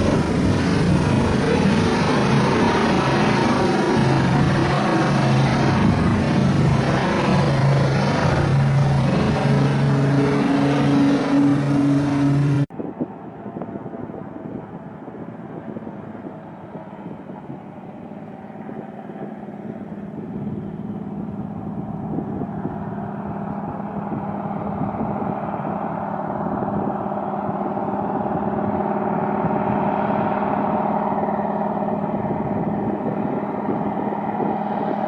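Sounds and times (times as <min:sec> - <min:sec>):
loud engine hum: 0:00.0 - 0:35.0
muffled aircraft engine droning: 0:00.0 - 0:35.0.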